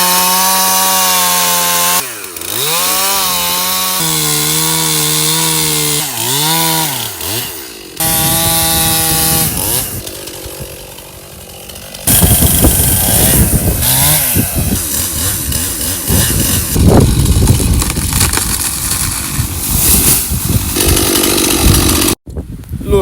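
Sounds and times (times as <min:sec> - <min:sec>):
chainsaw cutting wood: 0:00.0 - 0:22.2.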